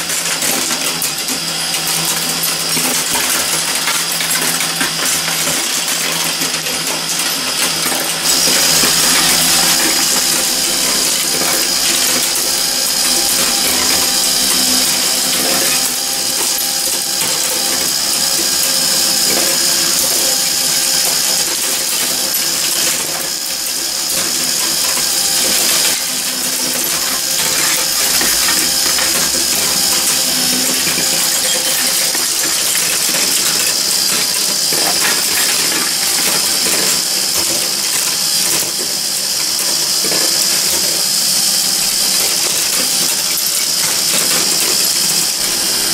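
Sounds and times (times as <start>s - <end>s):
marbles rolling through metal chutes: 0.0s - 41.1s, 41.8s - 45.9s.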